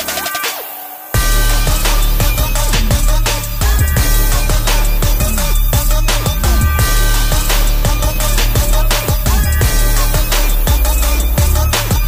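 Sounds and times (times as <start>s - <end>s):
hip hop beat: 0.0s - 12.0s
sliding deep bass notes: 1.2s - 12.0s.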